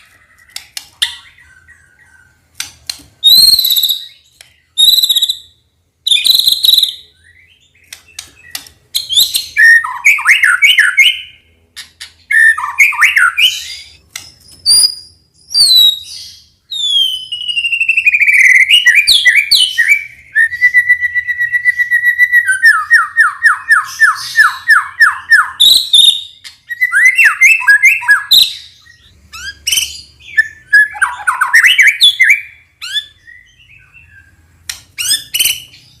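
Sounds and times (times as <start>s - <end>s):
bird singing whistled song: 3.2s - 11.4s, 12.2s - 34.4s, 35.0s - 36.0s.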